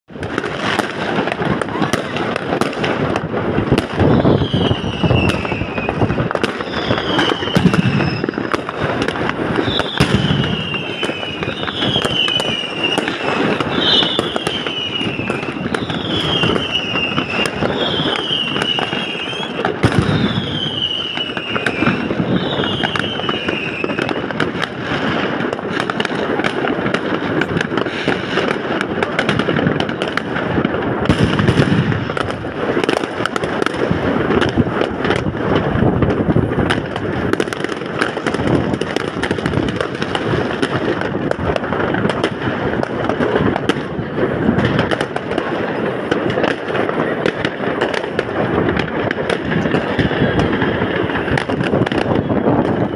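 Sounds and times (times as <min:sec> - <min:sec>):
firecrackers crackling: 0:00.0 - 0:52.9
firework booms: 0:00.1 - 0:52.9.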